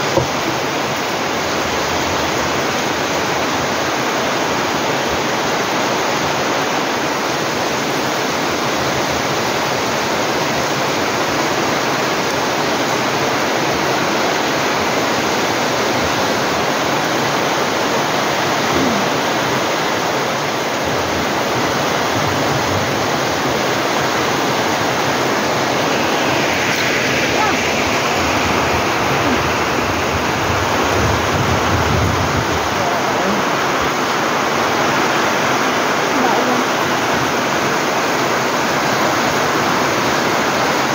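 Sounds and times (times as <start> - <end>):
heavy rain on trees and roof: 0.0 - 40.9
water running off eaves: 0.0 - 40.9.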